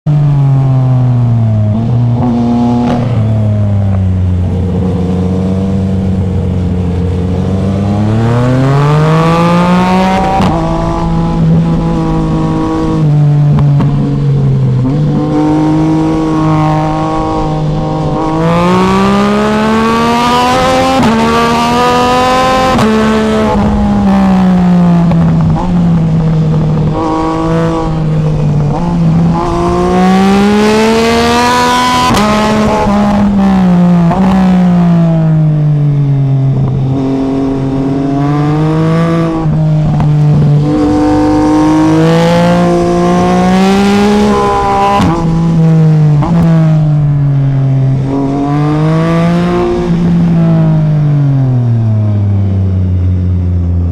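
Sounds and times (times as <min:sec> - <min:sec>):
motorcycle engine revving: 0:00.1 - 0:53.9.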